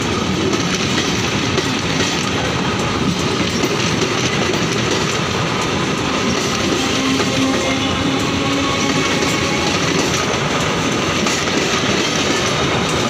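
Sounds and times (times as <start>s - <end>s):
electric train rumbling past: 0.0s - 13.0s
wheels clicking over rail joints: 0.0s - 13.0s.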